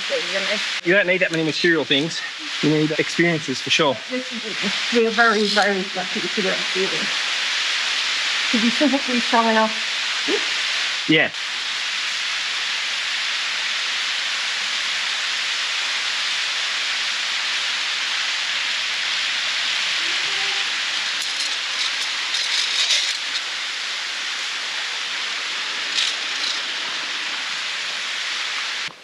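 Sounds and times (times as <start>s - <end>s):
waterfall rushing and splashing: 0.0s - 29.0s.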